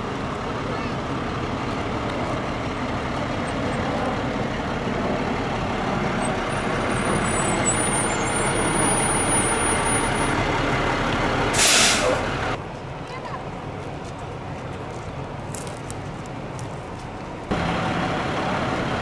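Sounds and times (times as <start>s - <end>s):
fire engine diesel engine running: 0.0s - 19.0s.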